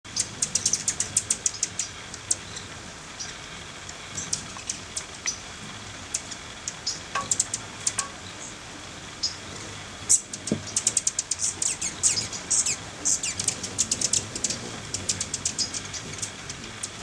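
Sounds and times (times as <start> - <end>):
hummingbirds chattering: 0.1 - 17.0
rain hiss: 0.1 - 17.0.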